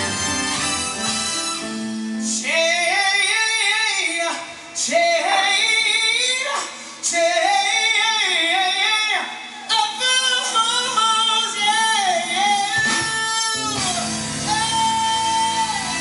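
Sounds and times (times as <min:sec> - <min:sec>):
soul band instruments: 0:00.0 - 0:16.0
woman singing: 0:02.4 - 0:16.0.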